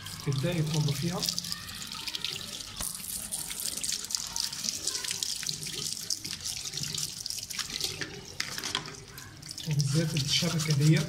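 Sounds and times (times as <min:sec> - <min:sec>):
tap water splashing: 0:00.0 - 0:11.0.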